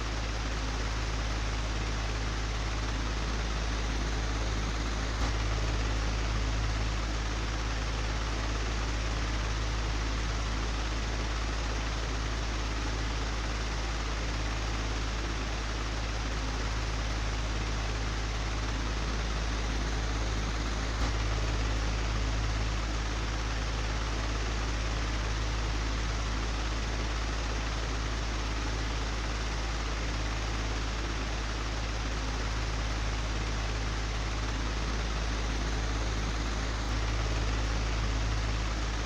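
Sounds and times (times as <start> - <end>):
electric fan running: 0.0 - 39.0.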